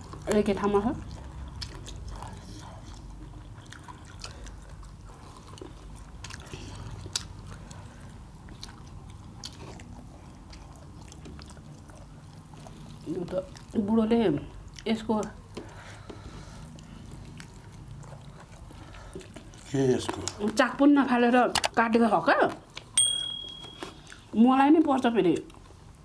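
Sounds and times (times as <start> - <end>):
chewing food: 0.0 - 20.9, 23.8 - 26.0.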